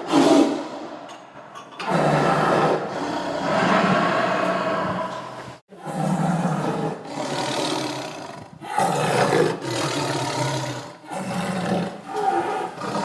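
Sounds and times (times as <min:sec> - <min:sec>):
tiger roaring: 0:01.8 - 0:13.0.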